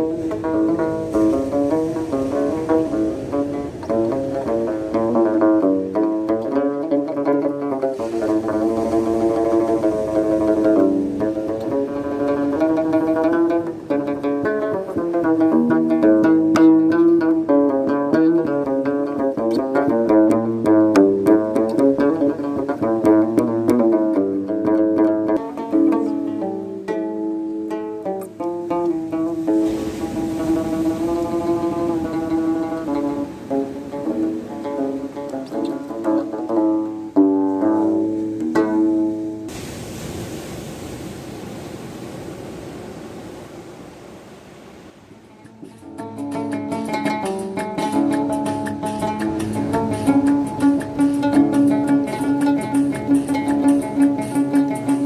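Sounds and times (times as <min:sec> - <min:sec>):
steady rushing noise: 0:00.0 - 0:17.5, 0:28.3 - 0:55.0
plucked string instrument melody: 0:00.0 - 0:39.6, 0:45.2 - 0:55.0.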